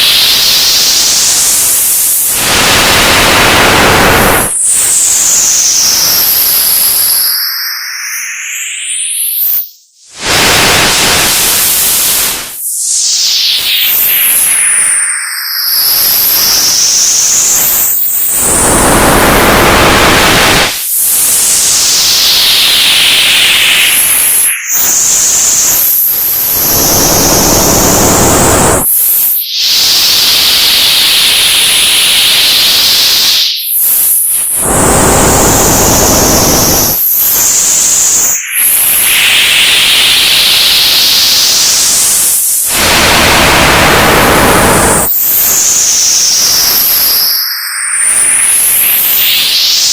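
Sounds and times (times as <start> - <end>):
analog tv static hiss: 0.0 - 7.3, 10.2 - 49.9
whistling tone sweeping: 0.0 - 49.9.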